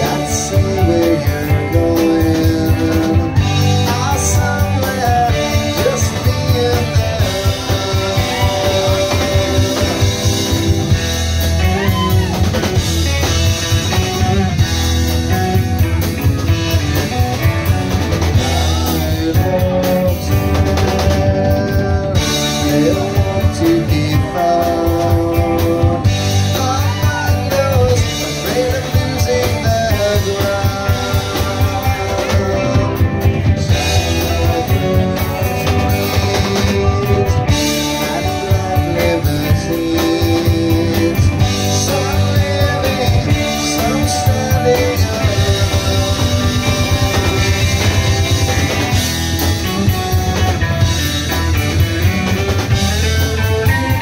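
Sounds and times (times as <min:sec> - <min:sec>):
man singing: 0:00.0 - 0:15.6, 0:18.2 - 0:50.1
bass guitar: 0:00.0 - 0:54.0
drum kit: 0:00.0 - 0:54.0
electric guitar: 0:00.0 - 0:54.0.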